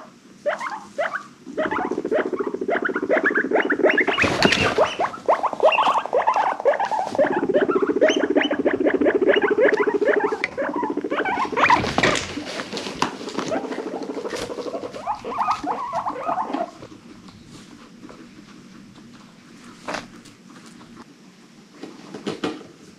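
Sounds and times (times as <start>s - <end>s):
guinea pigs squeaking: 0.0s - 21.0s
guinea pig purring rumble: 0.0s - 21.1s.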